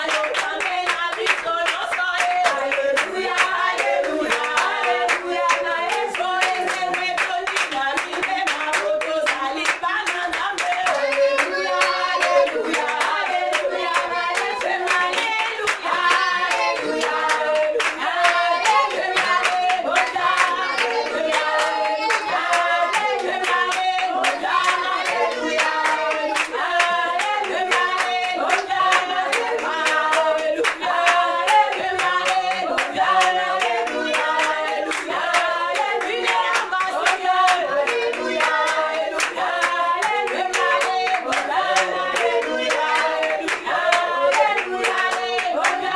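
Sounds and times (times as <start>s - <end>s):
congregation singing: 0.0s - 45.9s
rhythmic hand clapping: 0.0s - 45.9s.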